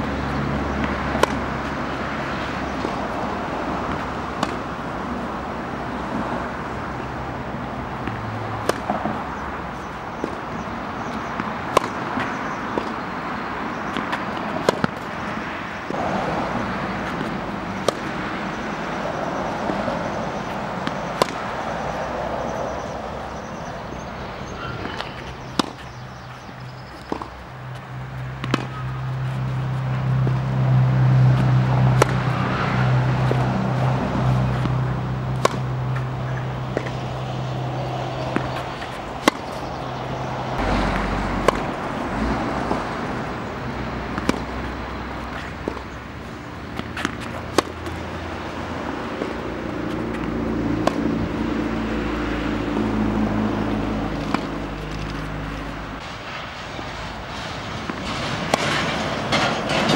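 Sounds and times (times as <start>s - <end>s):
outdoor noise: 0.0s - 59.9s
tennis ball struck by racket: 0.6s - 6.2s, 7.6s - 13.1s, 13.7s - 16.0s, 16.8s - 19.8s, 20.4s - 22.0s, 24.7s - 43.2s, 43.9s - 56.0s.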